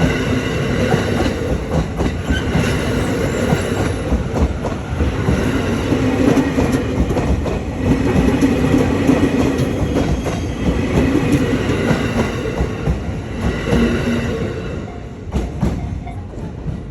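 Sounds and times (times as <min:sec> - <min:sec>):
train wheels clacking over rails: 0:00.0 - 0:16.9.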